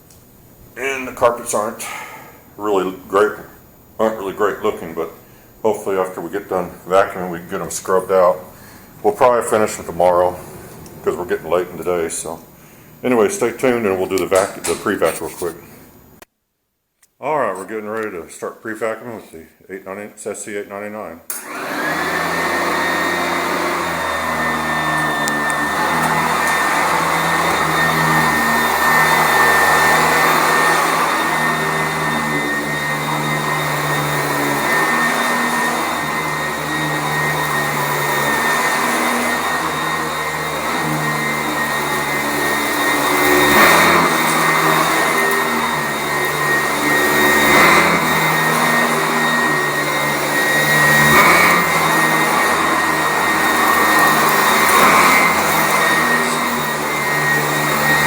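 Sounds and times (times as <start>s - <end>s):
vacuum cleaner motor whine: 0.8s - 16.0s, 21.3s - 58.0s.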